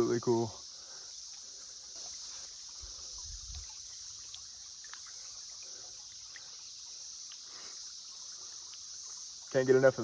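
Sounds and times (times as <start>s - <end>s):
cicada chorus: 0.0s - 10.0s
water trickling: 0.0s - 10.0s.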